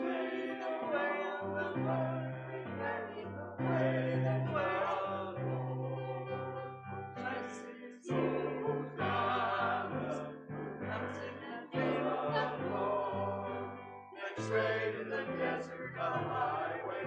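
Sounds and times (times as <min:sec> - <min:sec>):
church choir singing: 0:00.0 - 0:17.0.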